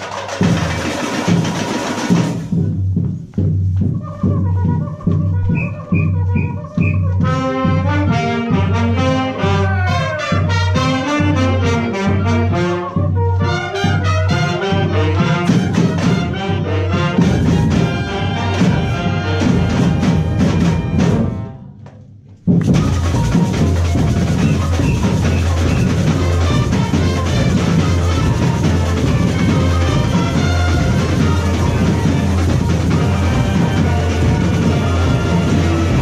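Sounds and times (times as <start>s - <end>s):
drum-heavy music: 0.0s - 21.5s, 22.5s - 36.0s
brass instrumental music: 3.8s - 21.7s, 22.7s - 36.0s.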